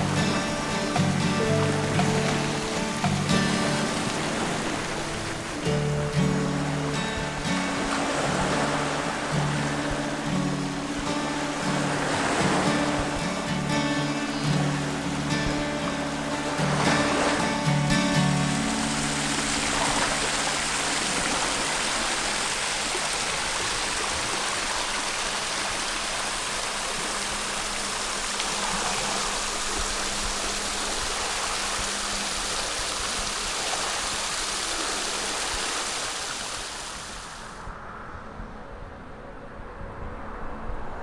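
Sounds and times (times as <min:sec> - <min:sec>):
waterfall rushing and splashing: 0:00.0 - 0:37.6.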